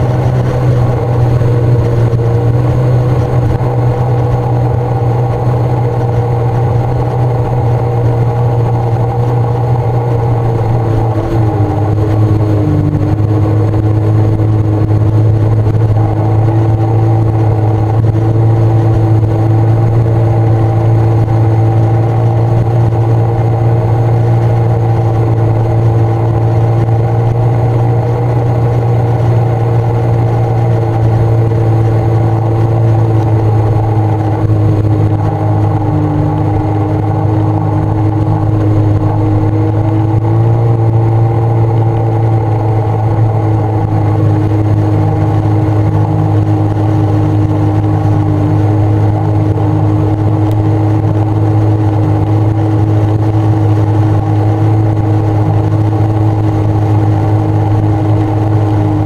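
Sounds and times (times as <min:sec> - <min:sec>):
watercraft engine running: 0:00.0 - 0:59.0.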